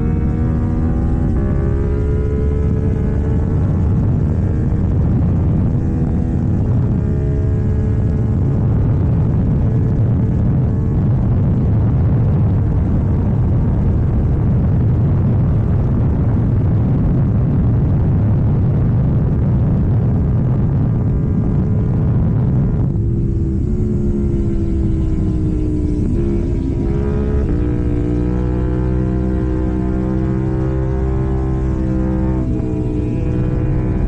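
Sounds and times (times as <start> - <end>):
motorcycle engine: 0.0 - 34.0
wind noise: 0.0 - 34.0.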